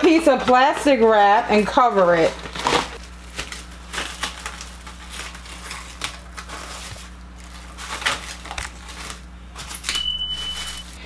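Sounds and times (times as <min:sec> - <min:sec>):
plastic cling wrap crinkling: 0:00.0 - 0:11.0.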